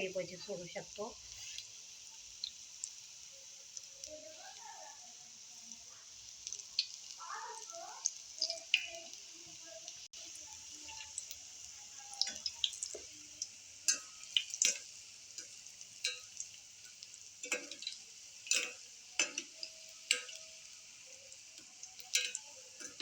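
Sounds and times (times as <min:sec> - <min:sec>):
hot oil sizzling: 0:00.0 - 0:23.0
oil popping and crackling: 0:00.0 - 0:23.0.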